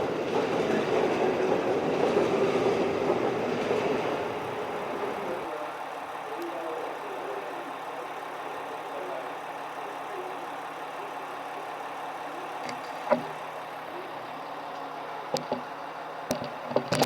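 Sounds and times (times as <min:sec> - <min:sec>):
train engine humming: 0:00.0 - 0:17.0.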